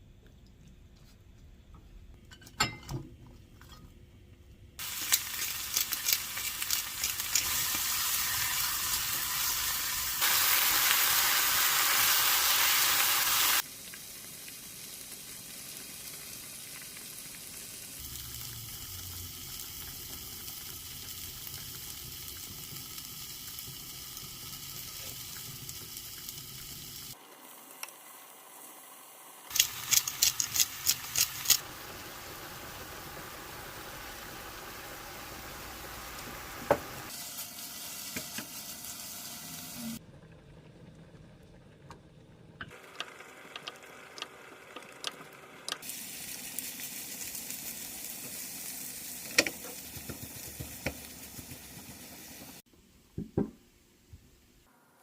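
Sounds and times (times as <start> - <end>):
food sizzling in a frying pan: 4.8 - 40.0, 42.7 - 52.7.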